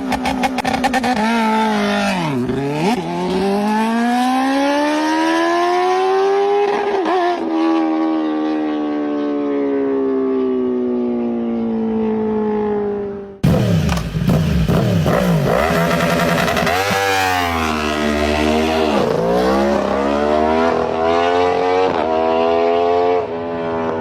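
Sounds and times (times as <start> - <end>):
motorcycle engine at high revs: 0.0 - 8.9, 13.4 - 24.0.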